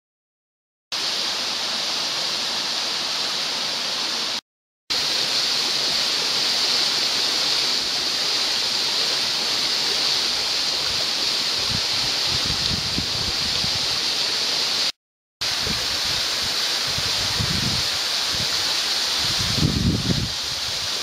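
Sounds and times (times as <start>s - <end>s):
waterfall hissing: 0.9s - 21.0s.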